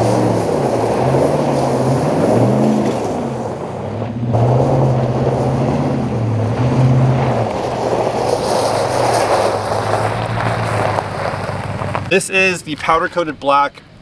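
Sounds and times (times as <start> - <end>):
truck engine revving: 0.0 - 12.5
tyres spinning on gravel: 0.0 - 13.4.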